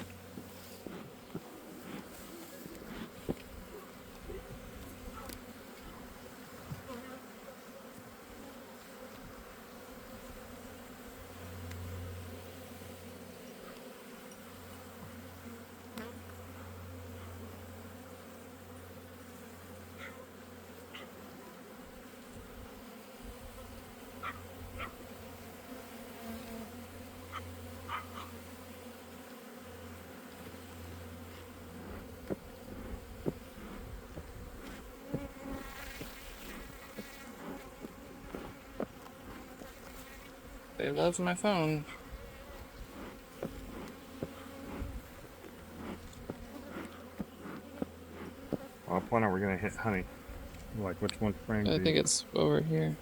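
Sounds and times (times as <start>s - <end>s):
bees zipping past: 0.0s - 50.5s
bees buzzing: 0.0s - 53.0s.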